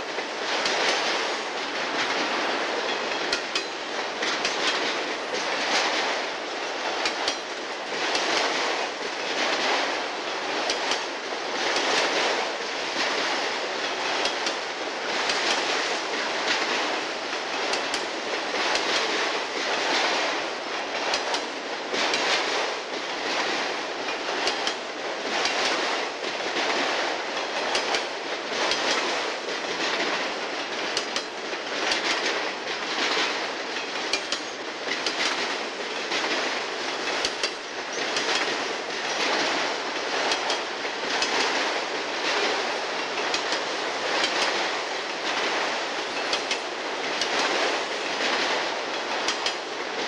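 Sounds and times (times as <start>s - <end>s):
steel wheels rushing on rail: 0.0s - 50.0s
wheels clicking over rail joints: 0.0s - 50.0s.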